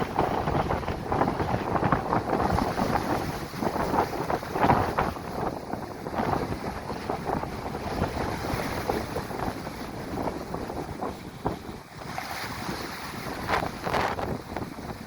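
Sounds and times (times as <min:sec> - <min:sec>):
gale buffeting microphone: 0:00.0 - 0:15.0
high waves washing: 0:00.0 - 0:15.0.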